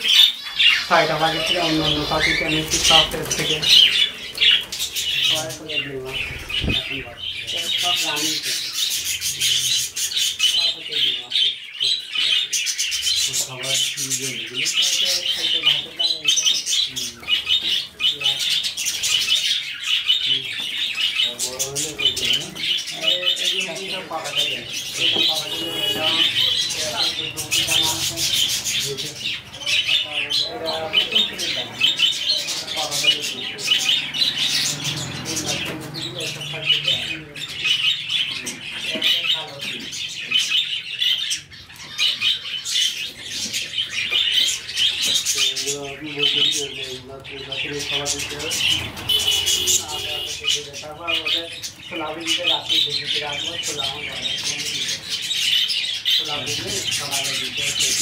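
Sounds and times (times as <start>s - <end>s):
budgerigars chirping: 0.0s - 58.0s.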